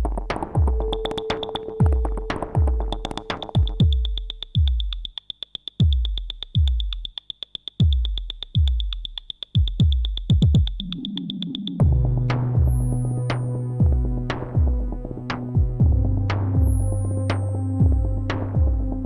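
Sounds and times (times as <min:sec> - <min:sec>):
drum machine kicks: 0:00.0 - 0:19.0.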